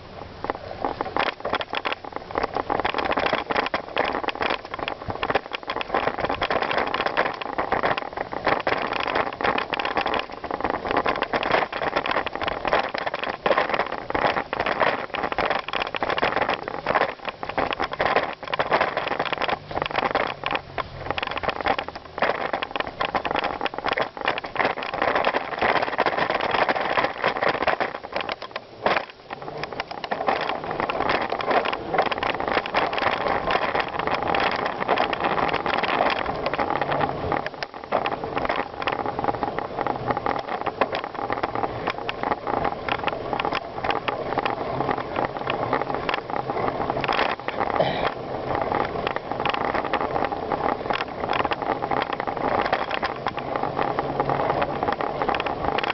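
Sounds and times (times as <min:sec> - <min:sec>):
bicycle rattles and knocks: 0:00.0 - 0:55.9
bicycle tyres on rough ground: 0:00.0 - 0:55.9.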